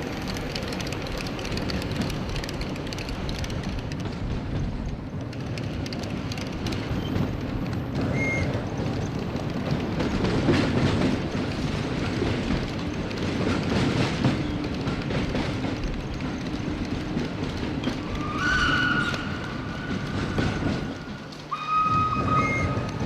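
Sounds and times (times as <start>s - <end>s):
model train rumbling: 0.0s - 23.0s
rail clicks: 0.0s - 23.0s.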